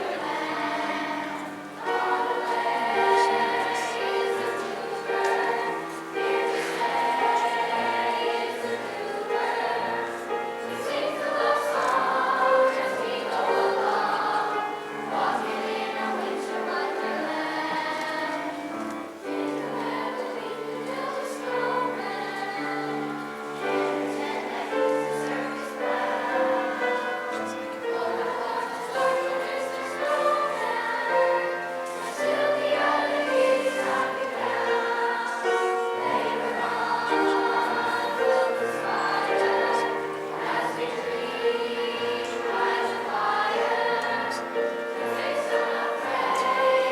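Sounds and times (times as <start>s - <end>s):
choir singing in parts: 0.0s - 46.9s
musical accompaniment: 0.0s - 46.9s.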